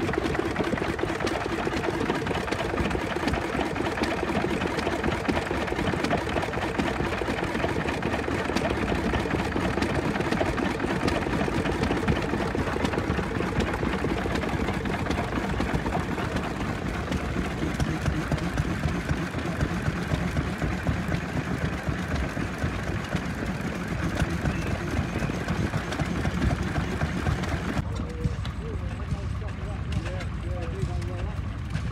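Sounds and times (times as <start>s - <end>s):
small stationary engines clattering: 0.0s - 31.9s.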